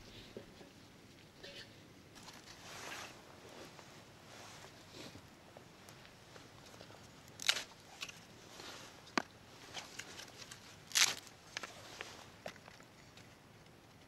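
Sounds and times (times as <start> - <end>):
dry sticks rustling: 2.2 - 14.0.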